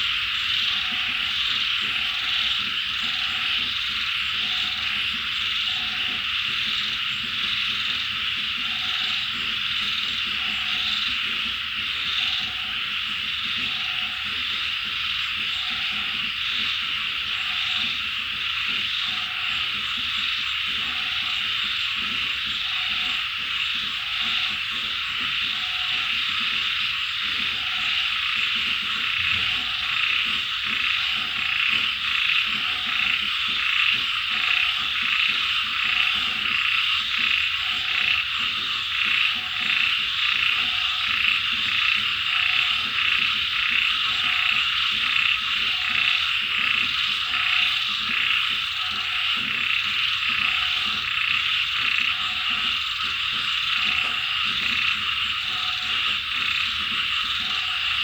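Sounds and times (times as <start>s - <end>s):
frogs trilling chorus: 0.0s - 58.0s
lower frog call: 0.0s - 58.0s.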